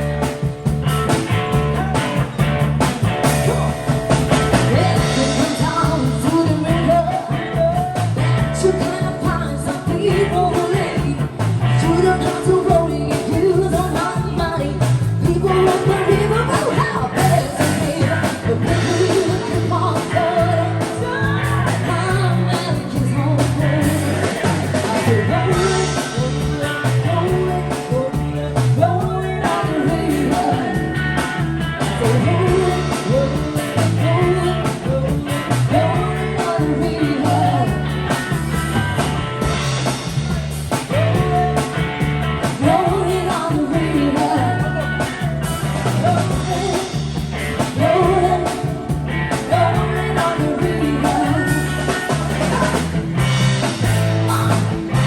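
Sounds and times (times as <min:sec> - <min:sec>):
driving bass line: 0:00.0 - 0:55.0
electric guitar: 0:00.0 - 0:55.0
lead singer: 0:00.0 - 0:55.0.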